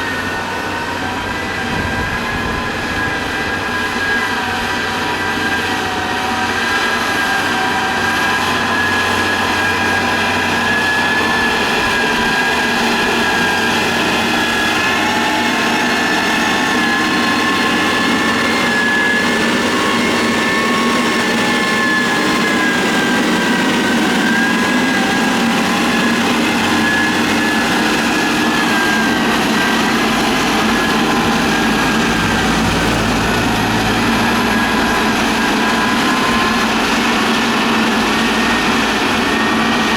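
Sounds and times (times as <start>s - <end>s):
diesel engine drone: 0.0s - 39.9s
high wavering whine: 0.0s - 39.9s.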